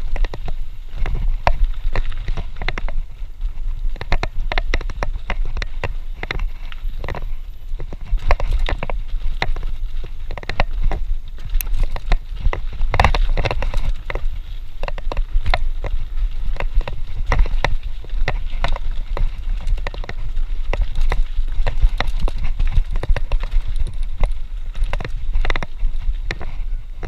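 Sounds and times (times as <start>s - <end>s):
mountain bike rattling over bumps: 0.0s - 27.0s.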